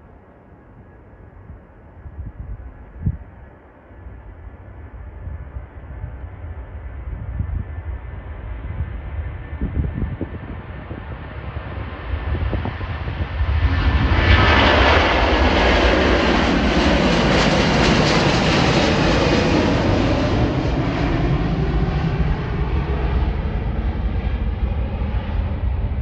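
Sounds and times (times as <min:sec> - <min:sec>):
jet airliner engine roar: 0:00.0 - 0:26.0.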